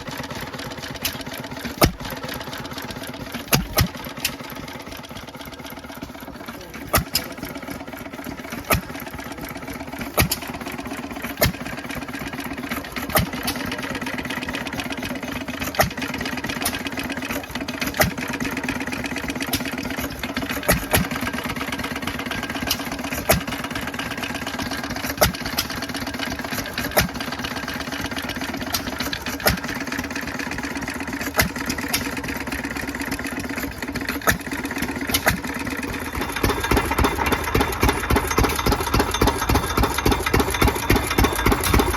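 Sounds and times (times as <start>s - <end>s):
old stationary engine running: 0.0s - 41.9s.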